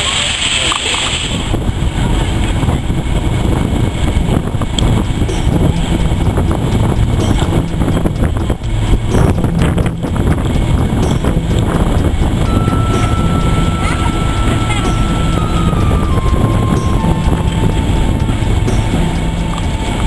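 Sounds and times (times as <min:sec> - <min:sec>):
wind noise on microphone: 0:00.0 - 0:20.0
diesel locomotive engine running: 0:00.1 - 0:20.0.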